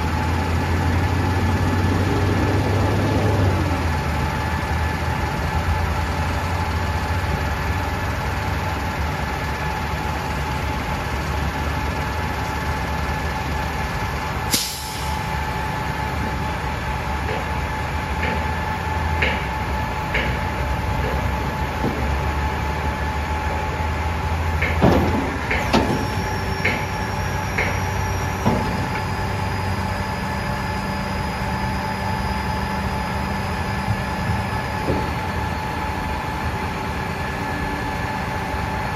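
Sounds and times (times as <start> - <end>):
vacuum truck engine whine: 0.0 - 38.9.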